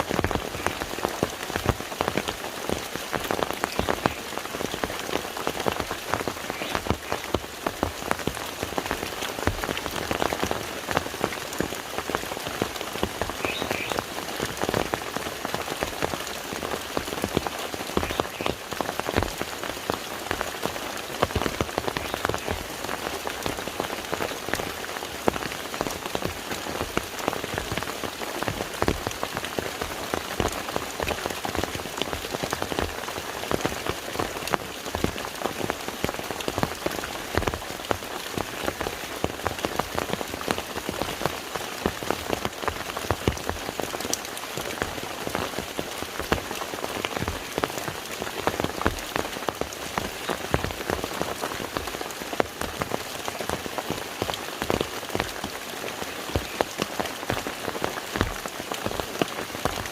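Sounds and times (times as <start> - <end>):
rain falling on lake: 0.0 - 59.9.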